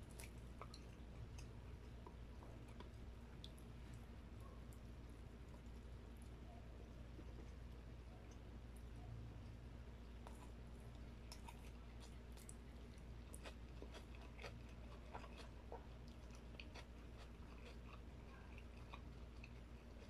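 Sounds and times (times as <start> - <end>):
chewing crispy fried chicken: 0.0 - 20.0
steady low hum: 0.0 - 20.0.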